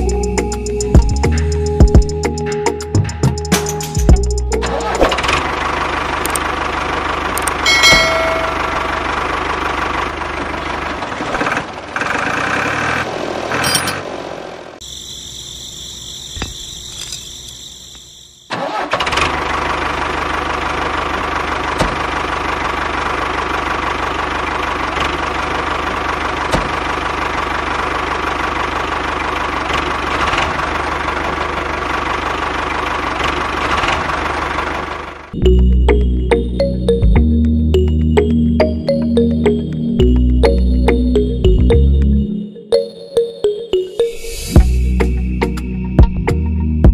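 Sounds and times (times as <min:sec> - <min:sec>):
tractor engine running: 0:00.0 - 0:42.3.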